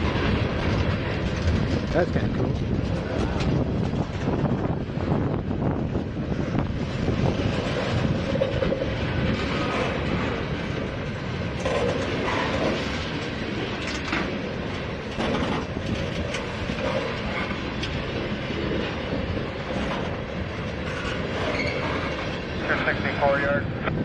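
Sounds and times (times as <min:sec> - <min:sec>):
wheels clicking over rail joints: 0:00.0 - 0:22.9
freight train wheels rumbling: 0:00.0 - 0:24.0.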